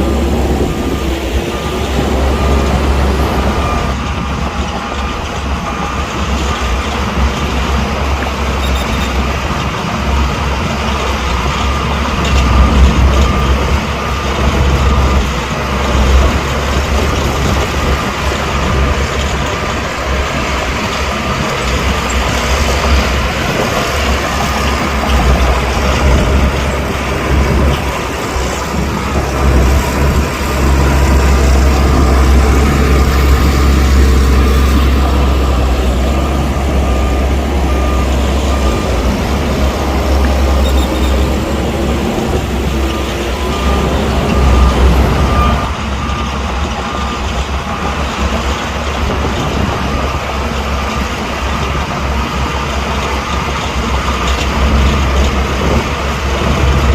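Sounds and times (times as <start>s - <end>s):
reversing alarm beeping: 0.0s - 9.5s, 10.1s - 51.7s
diesel machinery engine rumble: 0.0s - 56.9s.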